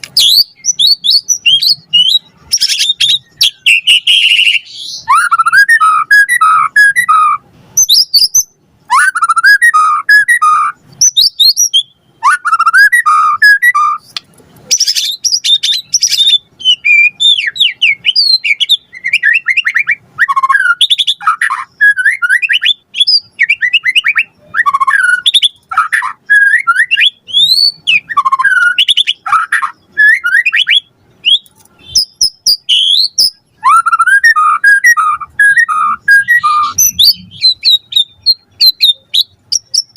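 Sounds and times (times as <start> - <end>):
songbird whistling and trilling: 0.2 - 39.9.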